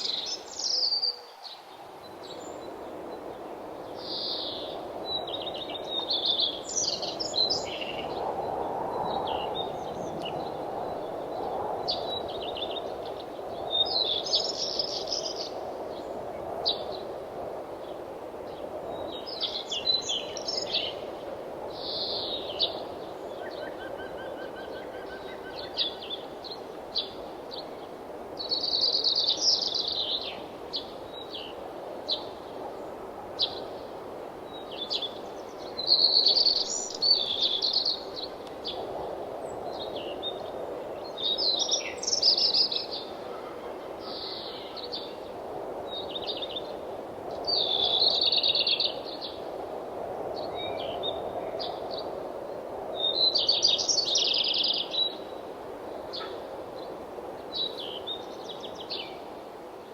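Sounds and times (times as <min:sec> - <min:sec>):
low rushing wind: 0:00.0 - 0:59.9.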